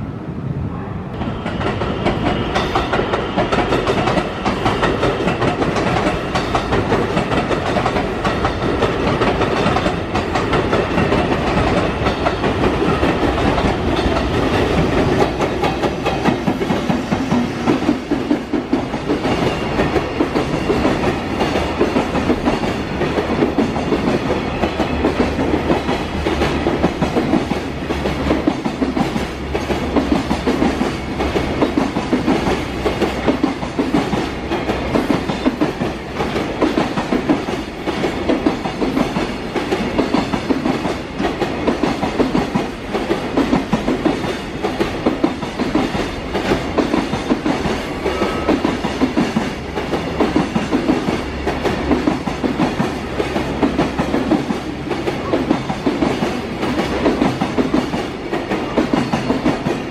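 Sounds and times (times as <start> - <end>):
freight train rumble: 0.0 - 59.9
wheels clacking over rail joints: 1.2 - 59.9.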